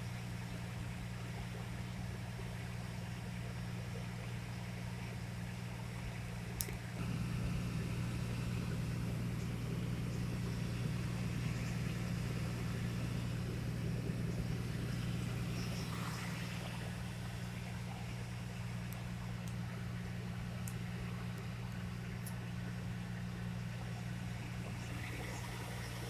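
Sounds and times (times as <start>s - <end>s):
low engine-like hum: 0.0s - 26.0s.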